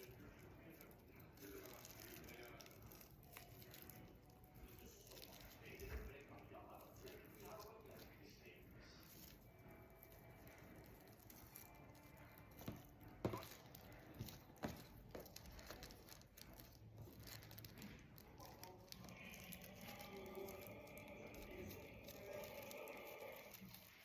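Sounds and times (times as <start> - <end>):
faint taps and crinkles: 0.0 - 24.0.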